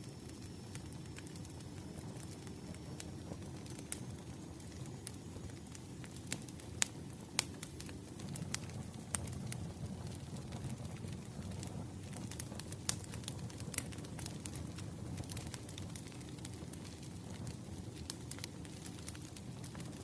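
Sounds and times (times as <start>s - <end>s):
campfire flames rumbling: 0.0s - 20.0s
wood crackling and popping: 0.0s - 20.0s.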